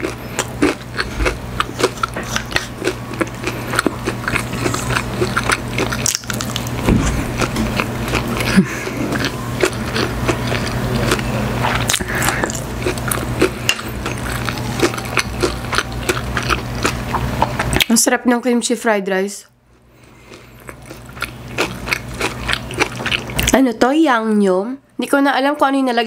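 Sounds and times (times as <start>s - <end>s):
close chewing and crunching: 0.0s - 18.0s, 19.7s - 23.7s.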